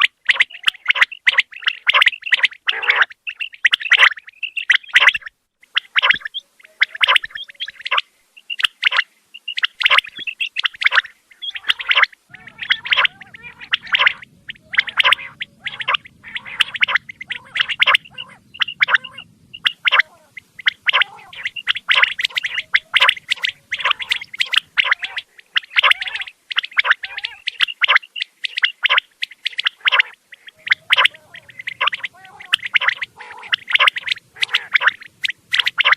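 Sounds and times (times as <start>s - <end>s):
quail calling: 0.0s - 35.9s.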